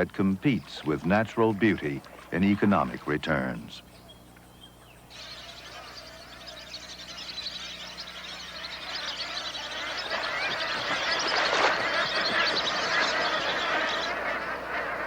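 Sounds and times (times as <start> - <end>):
birds chirping: 0.0 - 15.0
faint low hum: 0.0 - 15.0.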